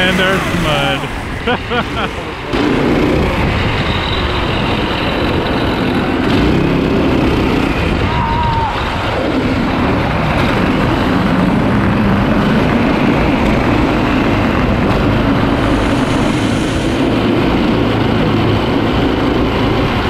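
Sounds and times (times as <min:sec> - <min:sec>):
go-kart engines running hard: 0:00.0 - 0:20.0.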